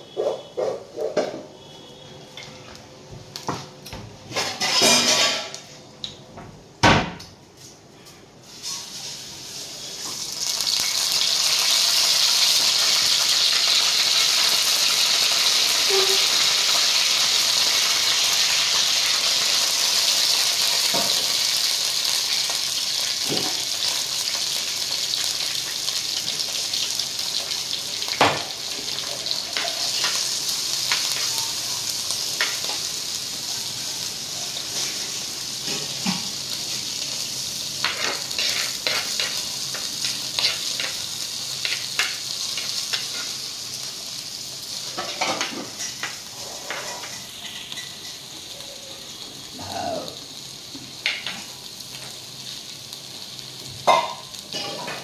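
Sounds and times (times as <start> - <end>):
leaves sizzling in oil: 8.4 - 55.0.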